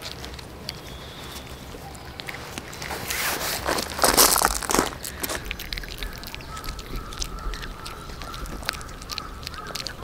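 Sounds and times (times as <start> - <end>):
animal calling: 0.0 - 10.0.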